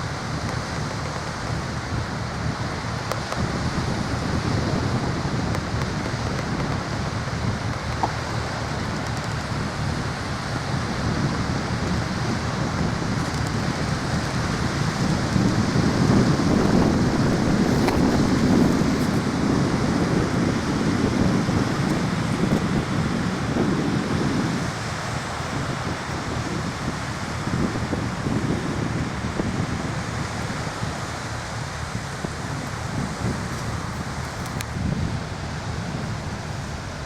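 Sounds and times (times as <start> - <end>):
sea waves: 0.0 - 37.0
wind on microphone: 0.0 - 37.0.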